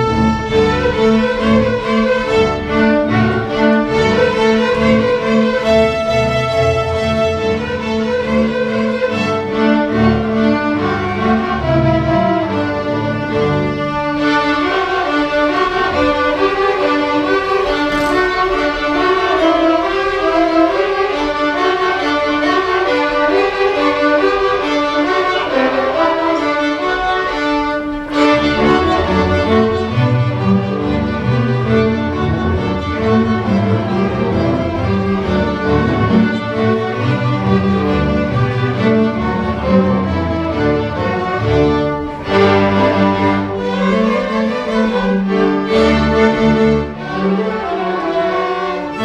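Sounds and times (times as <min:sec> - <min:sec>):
lower strings playing: 0:00.0 - 0:49.0
violins playing melody: 0:00.0 - 0:49.0.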